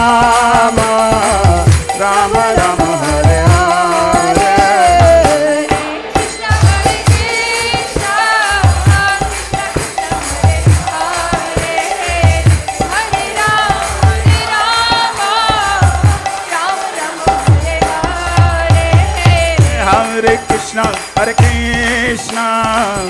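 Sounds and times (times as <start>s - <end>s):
low drum beats: 0.0s - 16.6s, 17.2s - 22.2s
jingling hand cymbals: 0.0s - 23.0s
voices singing devotional melody: 0.0s - 23.0s.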